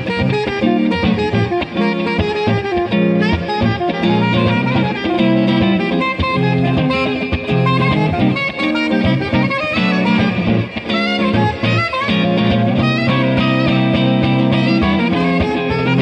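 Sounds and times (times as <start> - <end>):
electric guitar: 0.0 - 16.0
saxophone melody: 0.0 - 16.0
steady beat: 0.0 - 16.0.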